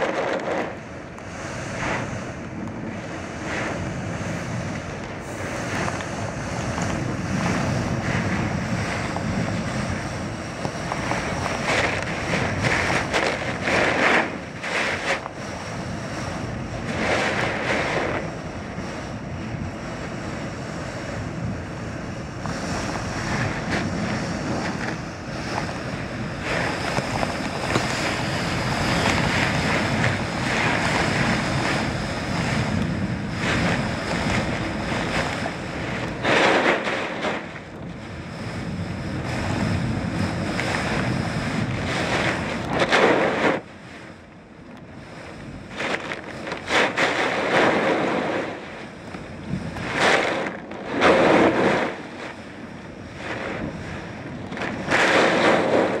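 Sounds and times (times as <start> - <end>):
waves breaking on shore: 0.0 - 56.0
wind rushing over microphone: 0.0 - 56.0.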